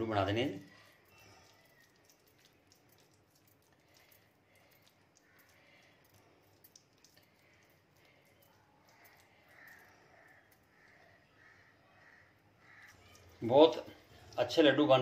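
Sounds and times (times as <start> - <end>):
hands squishing sticky mixture: 0.0 - 14.6.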